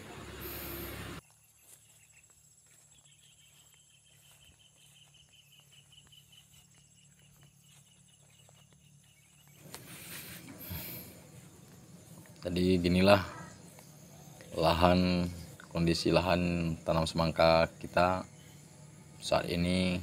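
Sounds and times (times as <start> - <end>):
faint low hum: 0.0 - 20.0
insect chirping in rapid pulses: 1.2 - 20.0.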